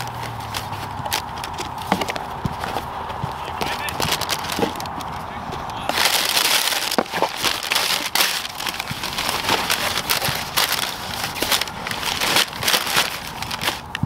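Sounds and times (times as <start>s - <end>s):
tissue paper and plastic bag rustling: 0.0s - 14.0s.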